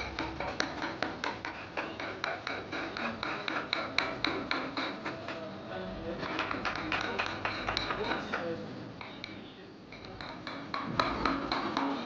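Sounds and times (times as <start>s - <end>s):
hammer tapping chisel into wood: 0.0s - 5.4s, 6.2s - 12.0s.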